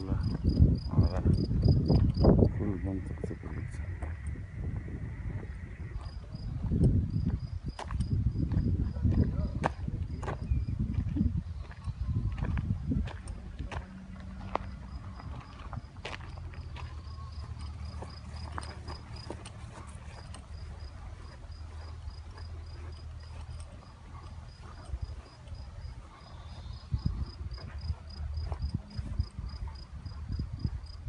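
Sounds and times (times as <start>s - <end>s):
cricket chirping: 0.0s - 9.3s, 14.1s - 31.0s
low microphone rumble: 0.0s - 31.0s.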